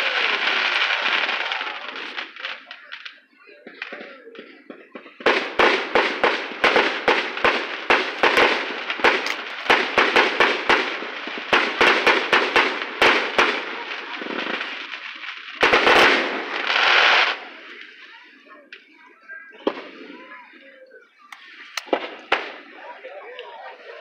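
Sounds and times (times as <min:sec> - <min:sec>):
fireworks bangs: 0:00.0 - 0:18.3, 0:19.5 - 0:20.6, 0:21.3 - 0:22.9
fireworks crackling: 0:00.0 - 0:24.0.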